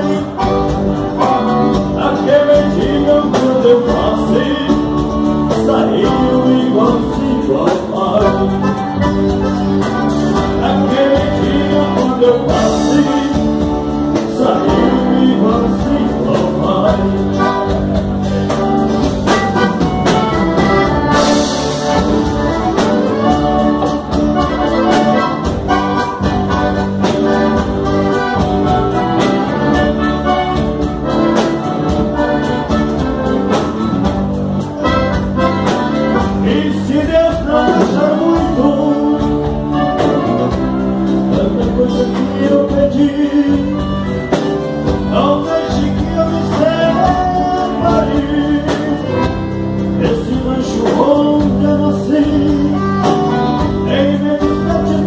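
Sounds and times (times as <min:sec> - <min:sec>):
man singing: 0:00.0 - 0:33.6, 0:34.9 - 0:55.0
acoustic guitar: 0:00.0 - 0:55.0
drum kit steady beat: 0:00.0 - 0:55.0
electric bass: 0:00.0 - 0:55.0
piano accordion: 0:00.0 - 0:55.0.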